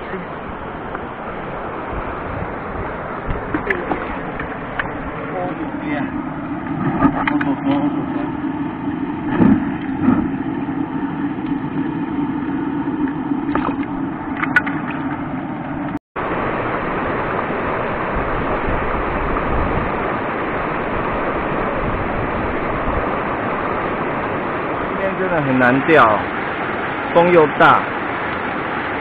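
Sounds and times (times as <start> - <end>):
low hum: 0.0 - 25.2
river rapids roaring over boulders: 0.0 - 29.0.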